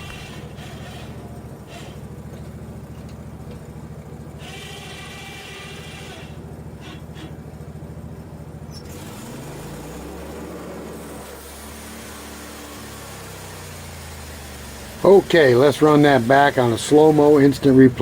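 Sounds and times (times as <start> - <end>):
bandsaw mill engine running: 0.0 - 18.0.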